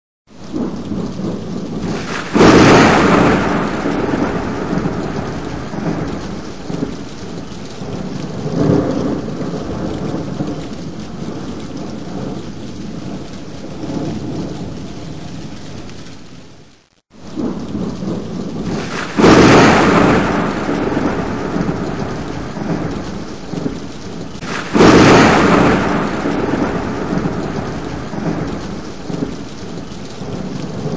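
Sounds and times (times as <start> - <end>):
heavy rain: 0.3 - 30.9
thunder cracking and rumbling: 0.4 - 16.0, 17.2 - 30.9.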